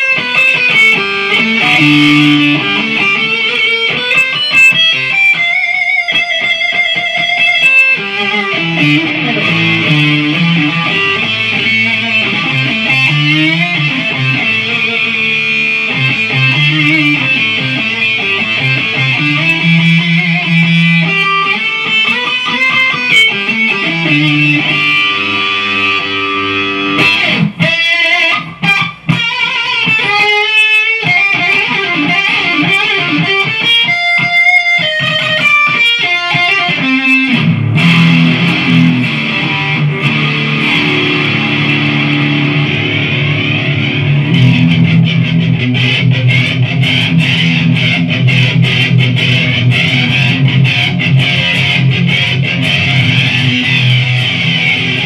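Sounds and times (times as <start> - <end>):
electric guitar through amp: 0.0 - 55.0.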